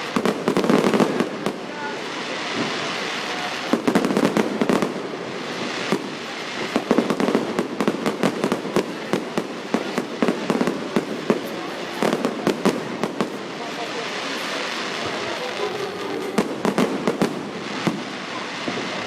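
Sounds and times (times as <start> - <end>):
fireworks crackling: 0.0 - 19.0
fireworks hissing: 0.0 - 19.0.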